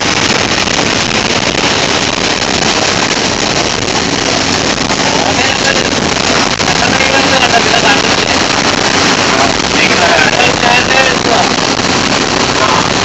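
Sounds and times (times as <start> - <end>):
bus engine: 0.0 - 13.0
rain on bus windscreen: 0.0 - 13.0
tyres on wet road: 0.0 - 13.0.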